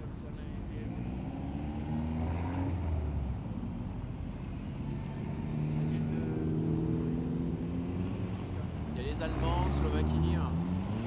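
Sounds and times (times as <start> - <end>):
car engines driving past: 0.0 - 11.0.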